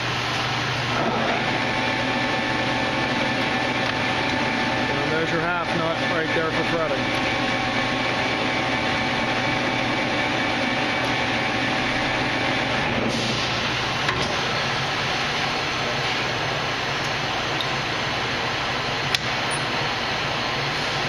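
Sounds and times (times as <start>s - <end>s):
lathe running: 0.0s - 21.0s.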